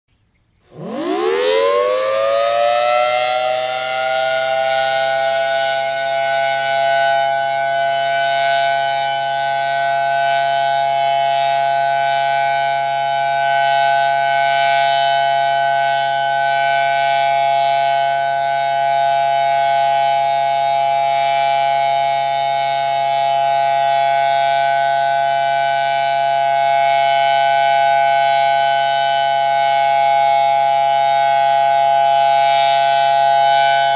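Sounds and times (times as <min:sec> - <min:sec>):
air raid siren winding up: 0:00.6 - 0:33.9.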